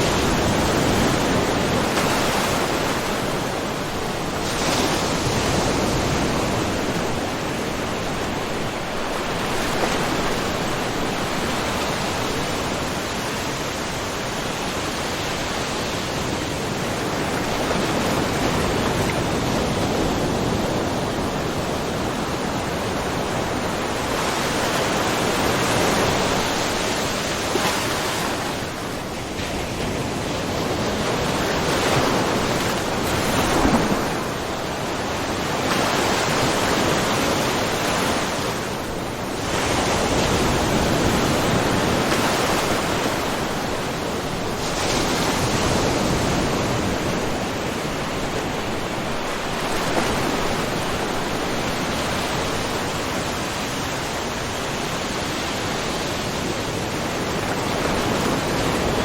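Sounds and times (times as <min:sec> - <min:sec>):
waves washing against rocky shore: 0:00.0 - 0:59.0.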